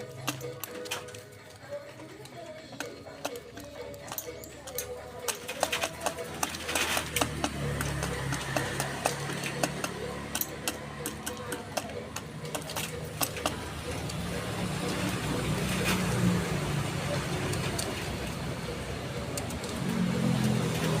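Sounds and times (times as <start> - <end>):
pigeons pecking at feed: 0.0 - 21.0.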